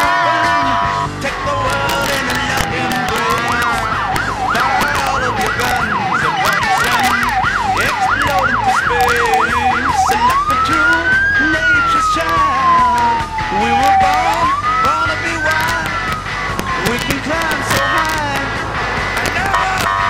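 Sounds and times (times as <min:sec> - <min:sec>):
background music: 0:00.0 - 0:20.0
emergency vehicle siren wailing: 0:00.0 - 0:20.0.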